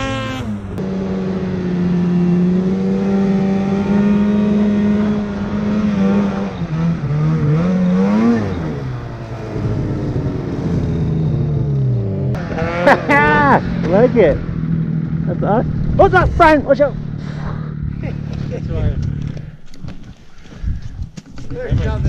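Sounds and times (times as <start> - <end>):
snowmobile engine revving: 0.0 - 19.4.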